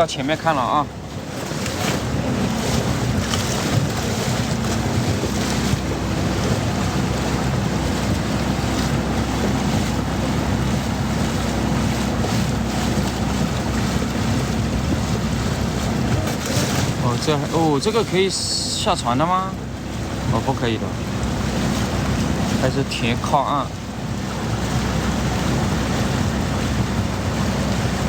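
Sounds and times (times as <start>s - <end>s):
boat motor running: 0.0s - 28.0s
rushing water: 0.0s - 28.0s
wind buffeting microphone: 0.0s - 28.0s.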